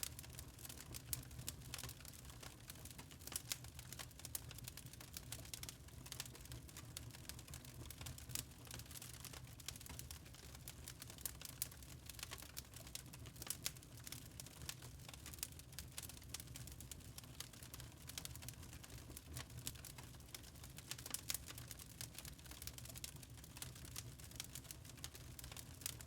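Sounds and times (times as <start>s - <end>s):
log fire crackling: 0.0s - 26.0s.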